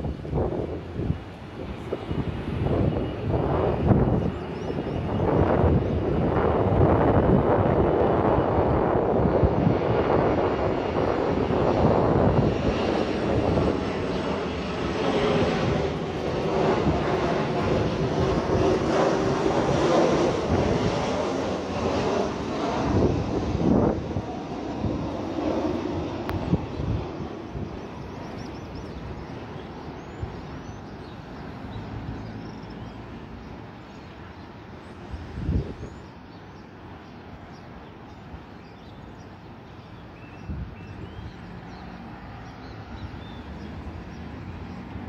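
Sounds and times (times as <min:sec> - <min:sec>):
jet airliner flying overhead: 0:00.0 - 0:45.0.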